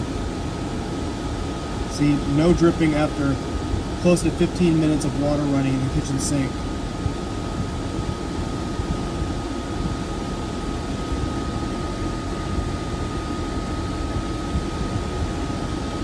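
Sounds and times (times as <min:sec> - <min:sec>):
fans and dehumidifier droning: 0:00.0 - 0:16.0
thin steady whine: 0:00.0 - 0:16.0.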